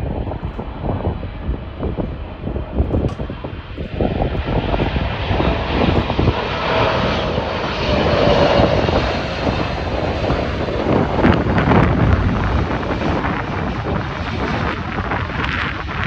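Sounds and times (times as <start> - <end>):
jet engines roaring: 0.0 - 16.0
wind buffeting microphone: 0.0 - 16.0.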